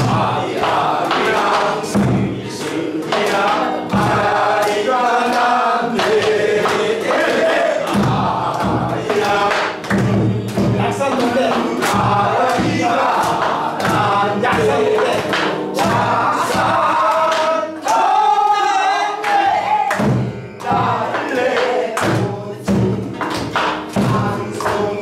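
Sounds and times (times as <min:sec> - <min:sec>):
acoustic guitar: 0:00.0 - 0:25.0
group singing folk song: 0:00.0 - 0:25.0
hands clapping on the beat: 0:00.0 - 0:25.0.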